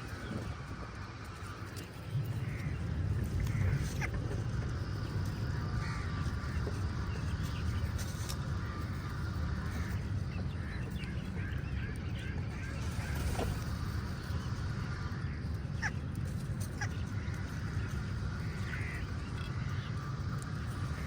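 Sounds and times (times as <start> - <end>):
crows cawing: 0.0 - 21.0.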